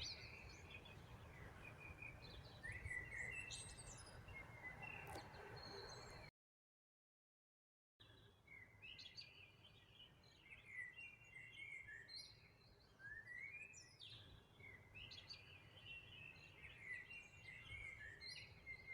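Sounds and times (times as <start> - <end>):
songbird singing: 0.0 - 6.3, 8.0 - 18.9.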